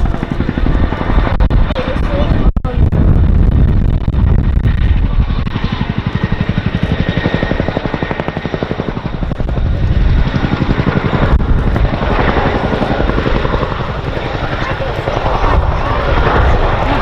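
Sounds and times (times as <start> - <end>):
helicopter rotor blades beating: 0.0 - 17.0.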